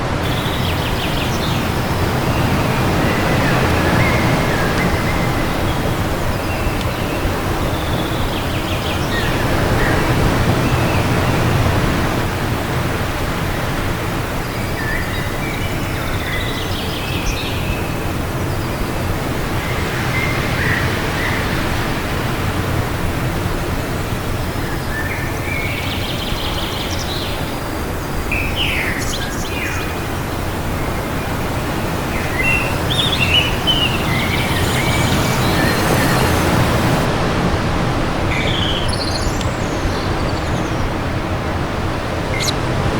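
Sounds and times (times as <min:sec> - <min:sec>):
wind blowing with low rumble: 0:00.0 - 0:42.9
small birds chirping: 0:00.2 - 0:21.6, 0:22.2 - 0:37.1, 0:38.4 - 0:41.0, 0:42.3 - 0:42.6.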